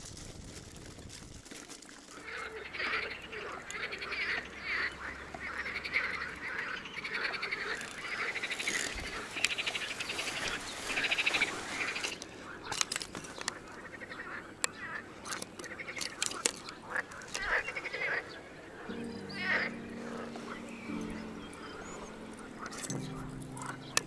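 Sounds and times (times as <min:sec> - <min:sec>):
frogs croaking: 0:02.1 - 0:24.0.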